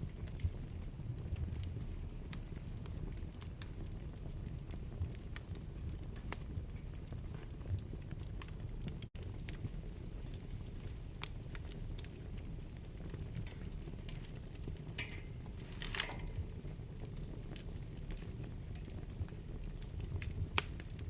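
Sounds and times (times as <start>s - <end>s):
fire crackles and pops: 0.0s - 21.0s
fire rumbling: 0.0s - 21.0s.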